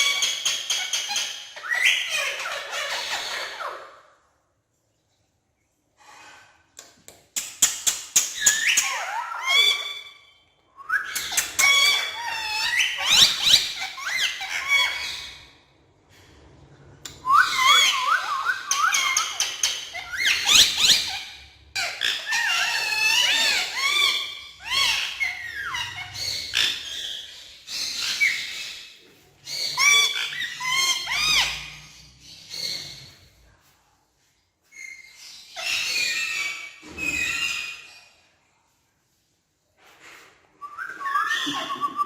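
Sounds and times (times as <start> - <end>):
parakeets squawking and whistling: 0.0 - 4.0, 7.6 - 15.6, 17.1 - 33.5, 34.7 - 38.3, 40.3 - 42.0.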